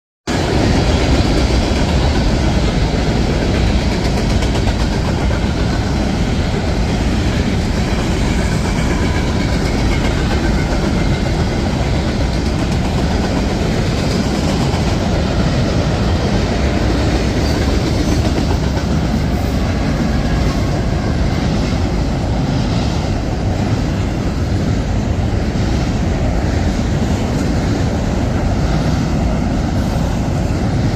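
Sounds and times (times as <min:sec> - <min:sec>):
rumble of steel wheels on rail: 0:00.3 - 0:30.9.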